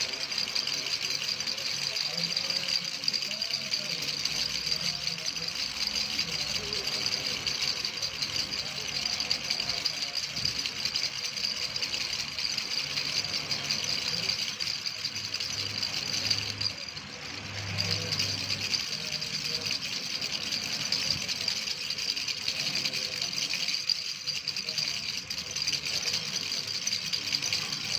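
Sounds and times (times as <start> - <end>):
fast rattling: 0.0 - 27.9.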